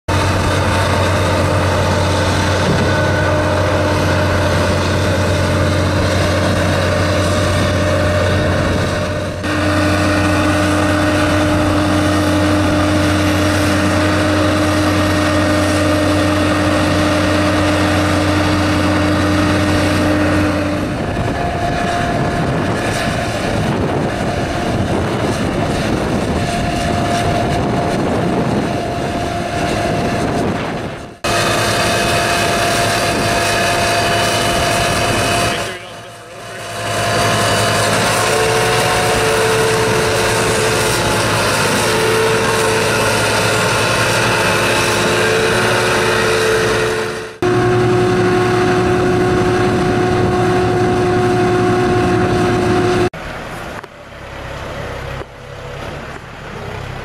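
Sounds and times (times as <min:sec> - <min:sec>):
tractor engine running: 0:00.1 - 0:57.0.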